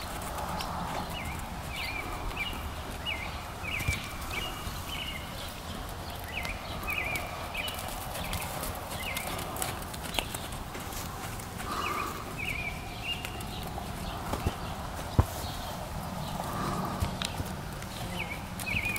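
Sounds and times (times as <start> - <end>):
horse hoofbeats on dirt: 0.0 - 18.9.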